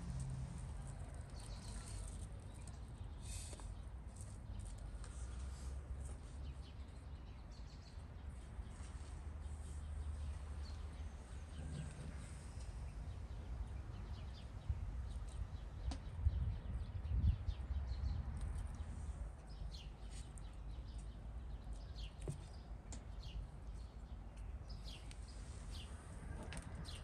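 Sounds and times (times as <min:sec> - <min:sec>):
low outdoor rumble: 0:00.0 - 0:27.0
small birds chirping: 0:00.8 - 0:26.1, 0:26.7 - 0:27.0.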